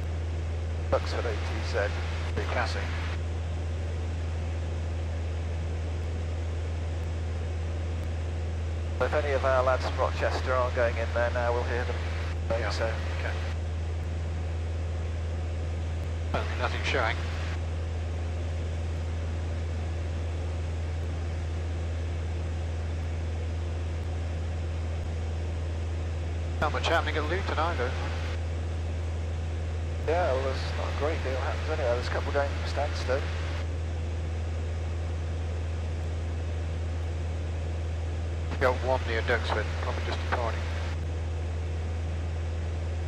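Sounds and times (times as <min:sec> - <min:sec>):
light aircraft engine droning: 0:00.0 - 0:43.0.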